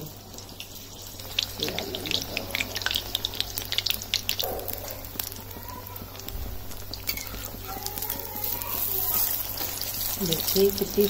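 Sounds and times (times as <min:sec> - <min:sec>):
food deep-frying in hot oil: 0:00.0 - 0:11.0
oil crackling and popping: 0:00.0 - 0:11.0.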